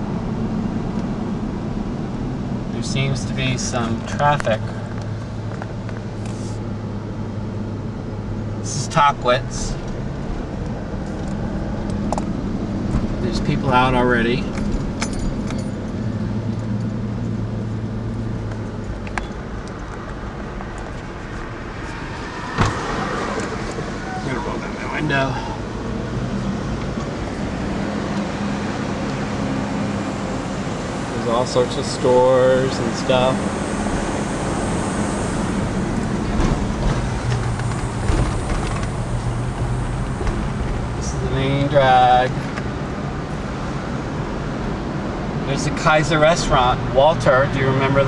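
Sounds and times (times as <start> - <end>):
car engine hum and road noise: 0.0 - 48.0.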